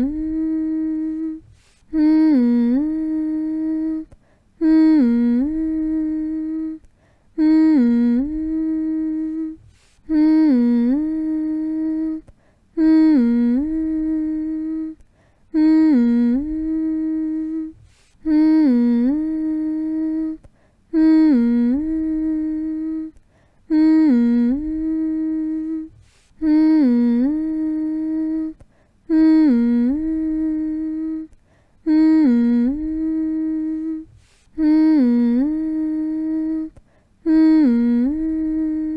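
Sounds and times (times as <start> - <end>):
person humming lullaby: 0.0 - 38.9.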